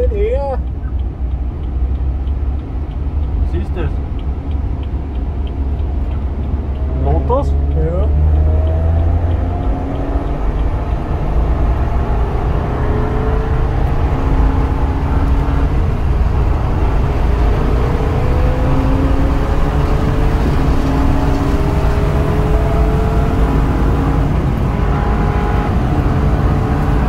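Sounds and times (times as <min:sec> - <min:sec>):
car engine accelerating: 0:00.0 - 0:27.0
road and wind rumble: 0:00.0 - 0:27.0.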